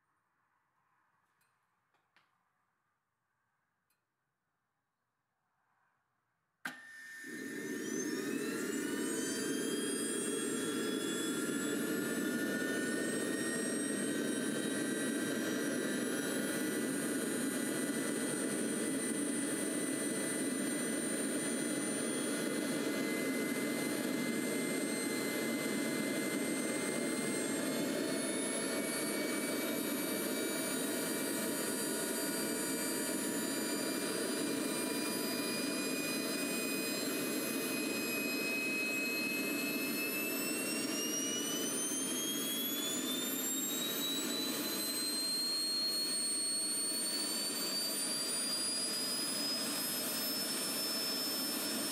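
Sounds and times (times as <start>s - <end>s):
jet turbine whine: 6.7s - 51.9s.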